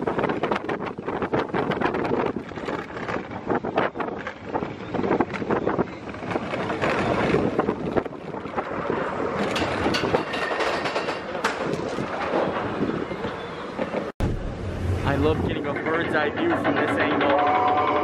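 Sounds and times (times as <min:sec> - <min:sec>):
wind buffeting microphone: 0:00.0 - 0:17.3
roller coaster wheels rattling: 0:00.0 - 0:18.0.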